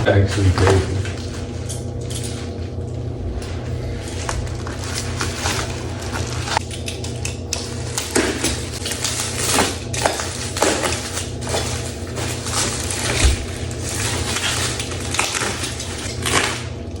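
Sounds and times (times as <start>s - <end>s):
low hum: 0.0s - 17.0s
packaging crinkling and rustling: 0.0s - 17.0s.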